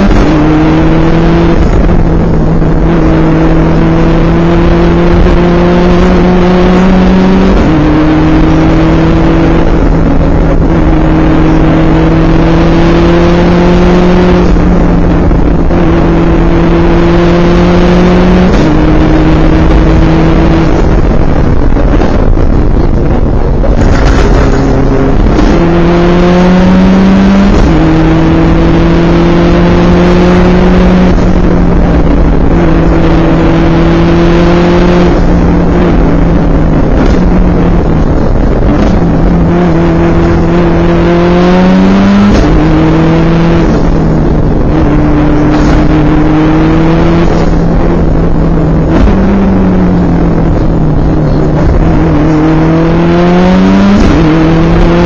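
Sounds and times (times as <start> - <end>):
rally car engine revving through gears: 0.0 - 55.0
road and tyre noise: 0.0 - 55.0.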